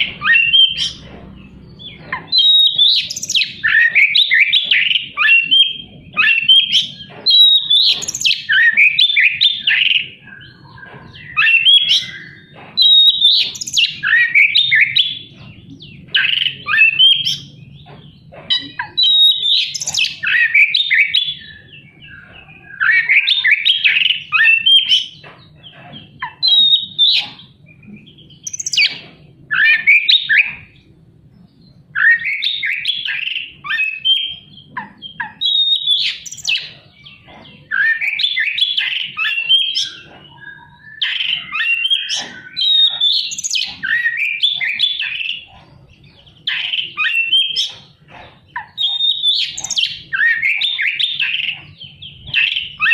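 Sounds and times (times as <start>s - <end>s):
magpie-robin singing: 0.0s - 52.9s.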